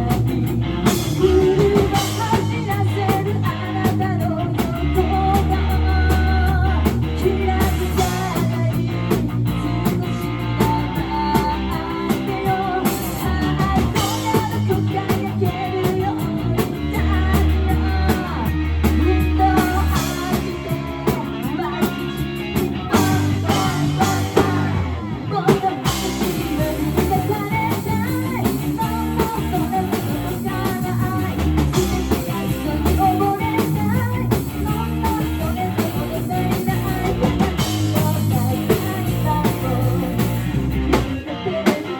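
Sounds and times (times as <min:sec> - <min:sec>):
bass line: 0:00.0 - 0:41.9
drum kit: 0:00.0 - 0:41.9
electric guitar: 0:00.0 - 0:41.9
person singing: 0:00.0 - 0:41.9.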